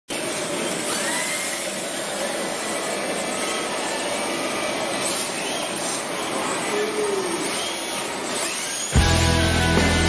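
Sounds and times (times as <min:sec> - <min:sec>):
electric motors whining: 0:00.1 - 0:10.0.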